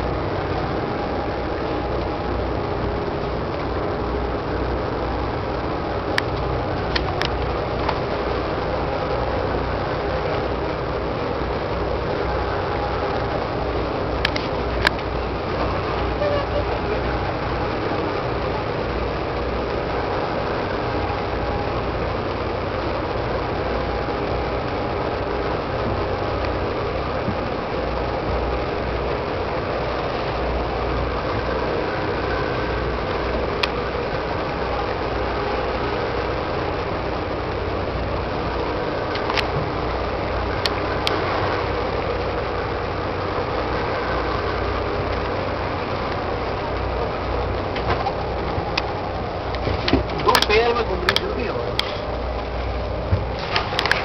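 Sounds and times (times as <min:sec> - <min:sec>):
even rushing noise: 0:00.0 - 0:54.0
ship engine humming: 0:00.0 - 0:54.0.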